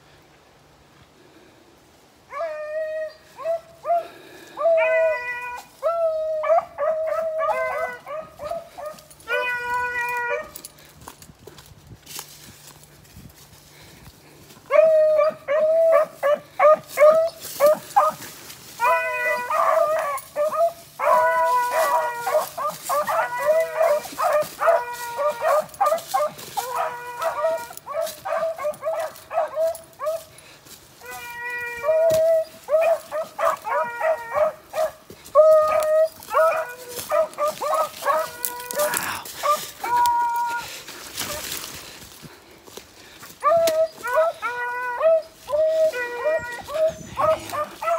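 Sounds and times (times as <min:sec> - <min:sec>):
beagles barking and baying: 0:02.3 - 0:10.9, 0:14.5 - 0:47.9.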